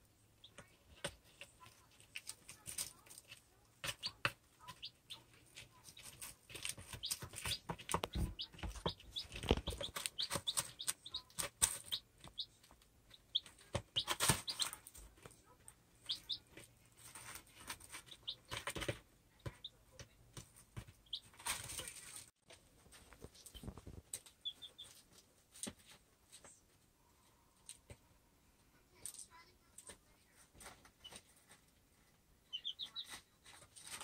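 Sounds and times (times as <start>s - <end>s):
chicks pecking and scratching: 0.0s - 34.0s
chicks peeping: 0.3s - 22.3s, 22.9s - 26.0s, 29.8s - 34.0s.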